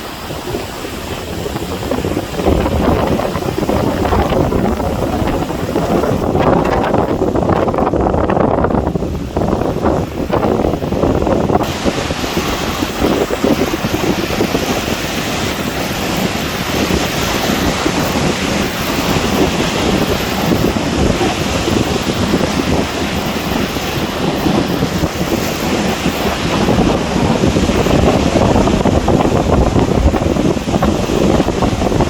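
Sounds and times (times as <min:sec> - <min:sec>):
strong wind buffeting microphone: 0:00.0 - 0:32.0
waves on choppy water: 0:00.0 - 0:32.0.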